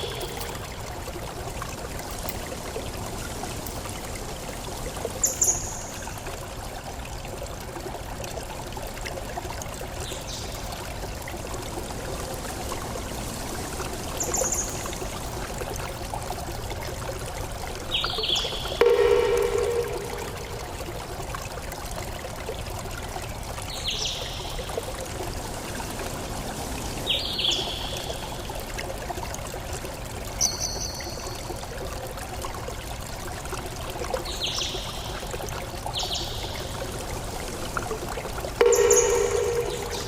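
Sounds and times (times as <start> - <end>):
running water: 0.0 - 40.0.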